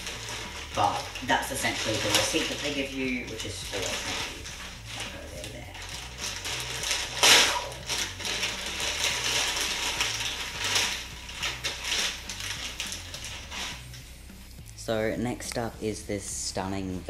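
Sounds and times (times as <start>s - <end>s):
plastic packaging crinkling: 0.0s - 14.9s.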